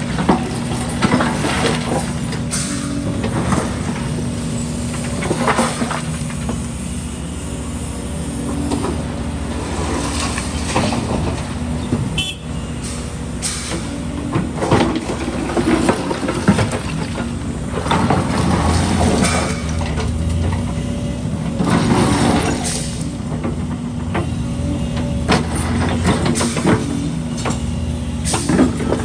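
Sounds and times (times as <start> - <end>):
diesel excavator engine running: 0.0 - 29.0.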